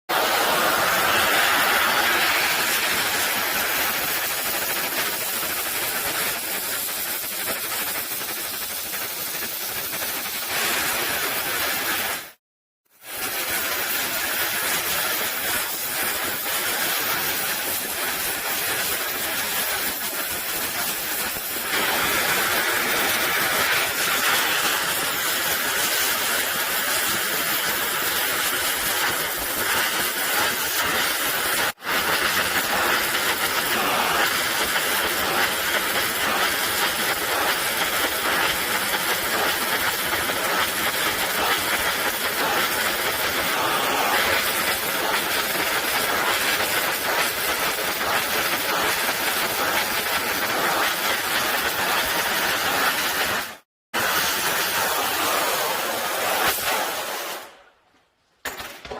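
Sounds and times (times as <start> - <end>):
welding torch flame hissing: 0.0 - 57.8.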